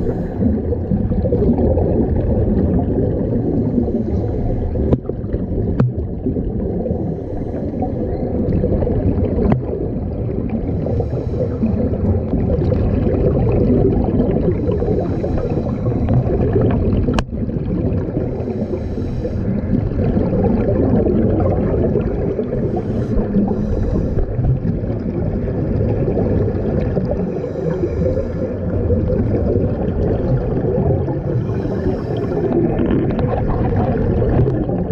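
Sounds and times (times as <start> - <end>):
scuba regulator bubbles gurgling: 0.0 - 34.9.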